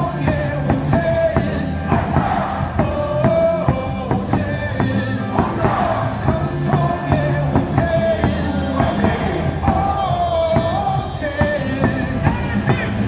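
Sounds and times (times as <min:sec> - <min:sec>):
amplified stadium music: 0:00.0 - 0:13.0
crowd singing: 0:00.0 - 0:13.0.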